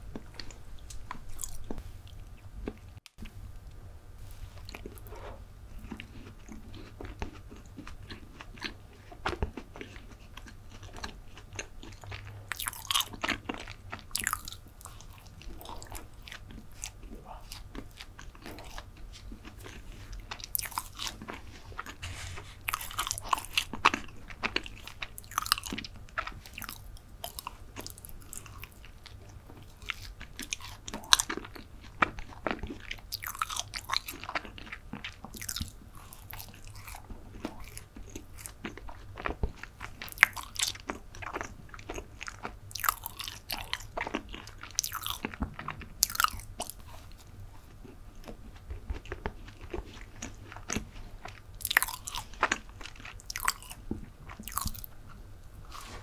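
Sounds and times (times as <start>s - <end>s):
chewing soft brownie: 0.0s - 56.0s.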